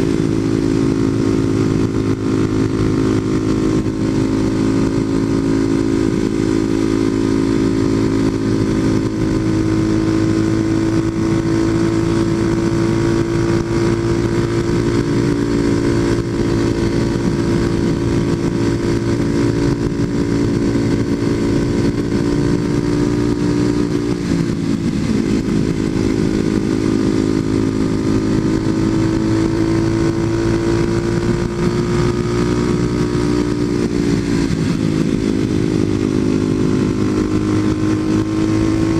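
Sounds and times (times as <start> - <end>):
motorcycle engine cruising: 0.0 - 38.9
wind noise: 0.0 - 38.9.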